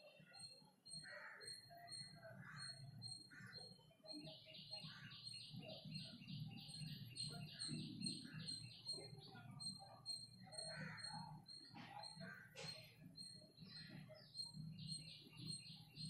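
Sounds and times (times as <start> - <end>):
bird repeated chirps: 0.0 - 16.0
steady high chirp: 0.0 - 16.0.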